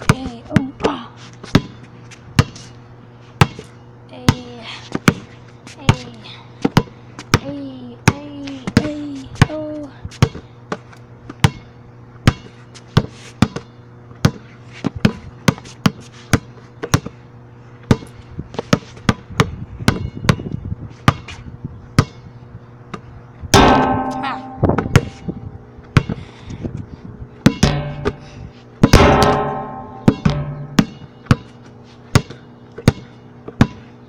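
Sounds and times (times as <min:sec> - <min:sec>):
basketball bouncing on pavement: 0:00.0 - 0:02.6, 0:03.4 - 0:17.2, 0:17.8 - 0:21.4, 0:22.0 - 0:22.2, 0:22.9 - 0:26.2, 0:27.4 - 0:33.9.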